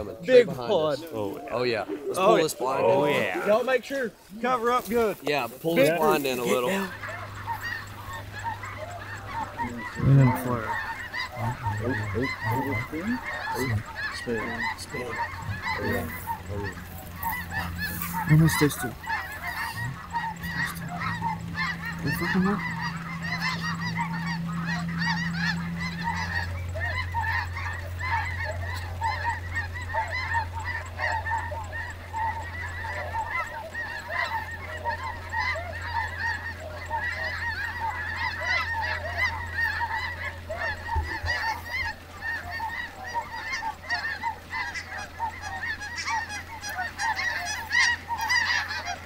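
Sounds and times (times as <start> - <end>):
geese honking: 0.0 - 49.0.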